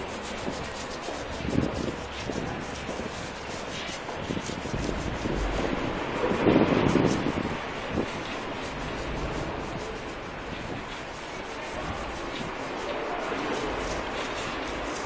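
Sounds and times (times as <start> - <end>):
brush scrubbing concrete: 0.0 - 15.0.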